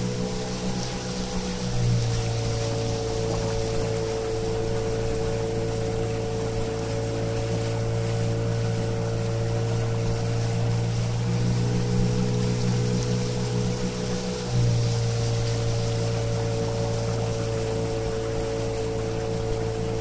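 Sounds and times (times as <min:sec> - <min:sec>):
outboard motor humming: 0:00.0 - 0:20.0.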